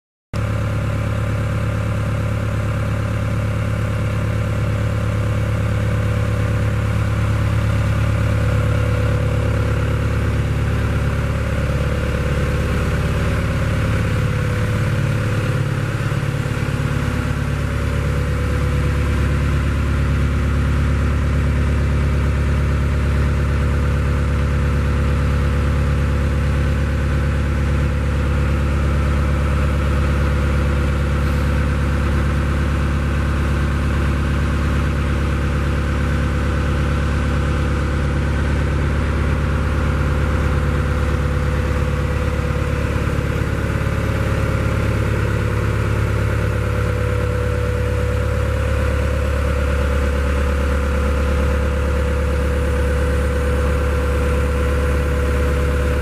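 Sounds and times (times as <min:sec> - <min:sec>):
excavator diesel engine idling: 0:00.4 - 0:56.0.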